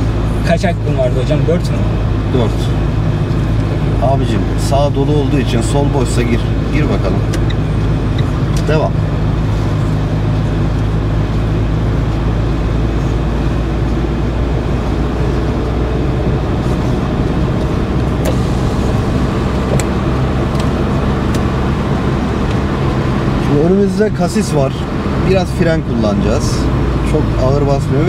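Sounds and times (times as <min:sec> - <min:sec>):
car engine running: 0:00.0 - 0:28.0
tyre and road noise: 0:00.0 - 0:28.0.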